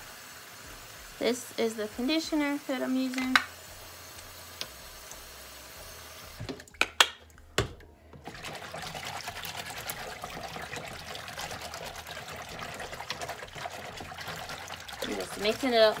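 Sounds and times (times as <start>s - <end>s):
tap water running into tub: 0.6s - 16.0s.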